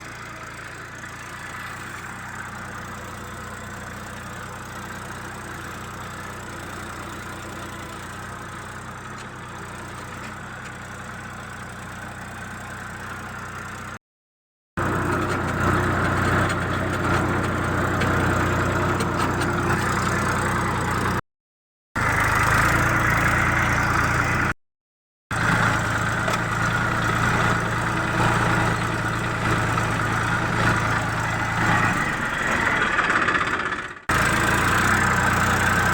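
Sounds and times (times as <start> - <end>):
tractor engine running: 0.0 - 14.0, 14.8 - 21.2, 22.0 - 24.6, 25.3 - 35.9.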